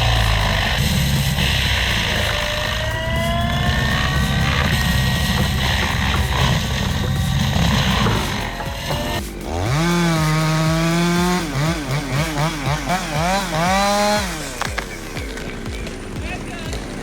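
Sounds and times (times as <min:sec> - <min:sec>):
chainsaw engine revving: 0:00.0 - 0:17.0
noisy rumble: 0:00.0 - 0:17.0.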